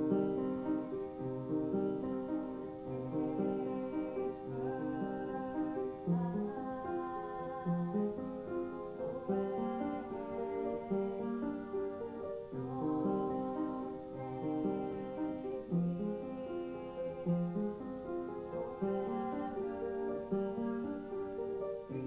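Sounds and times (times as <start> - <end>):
piano playing chords and melody: 0.0 - 22.0.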